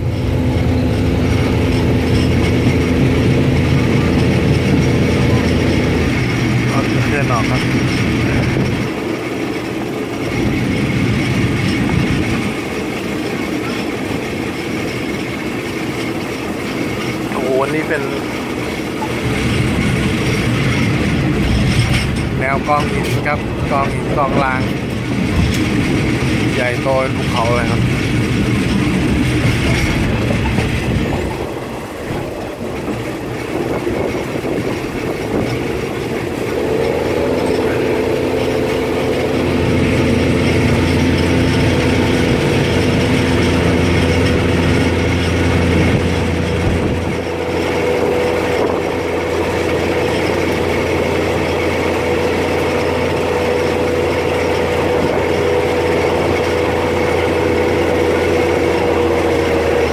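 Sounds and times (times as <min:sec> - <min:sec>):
train engine drone: 0:00.0 - 0:59.9
wheels rumbling on rail: 0:00.0 - 0:59.9.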